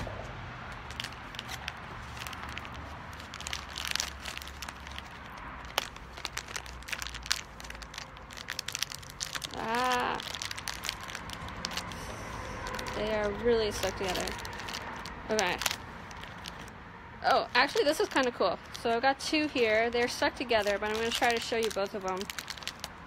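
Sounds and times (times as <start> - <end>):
plastic pouch crinkling: 0.7 - 23.0
toothpick clicks and crackles: 0.8 - 16.7, 19.8 - 23.0.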